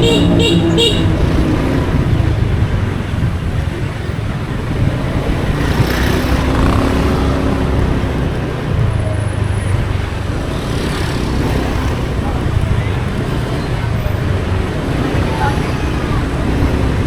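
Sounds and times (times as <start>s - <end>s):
motorcycle engine rumble: 0.0s - 17.0s
road and traffic noise: 0.0s - 17.0s.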